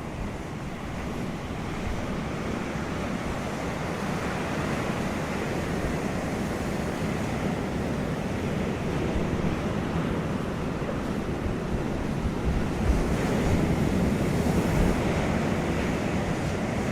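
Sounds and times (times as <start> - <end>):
wind blowing across microphone: 0.0 - 16.9.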